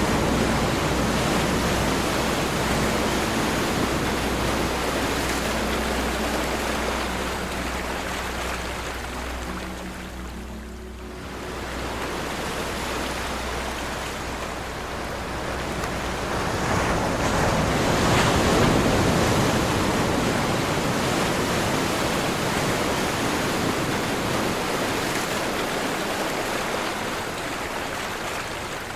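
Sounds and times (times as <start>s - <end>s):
ocean surf washing: 0.0s - 28.9s.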